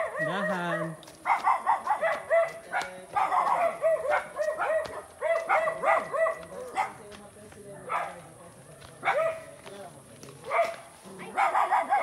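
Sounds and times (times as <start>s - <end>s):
dog barking: 0.0s - 7.1s, 7.8s - 8.4s, 9.0s - 9.6s, 10.4s - 12.0s.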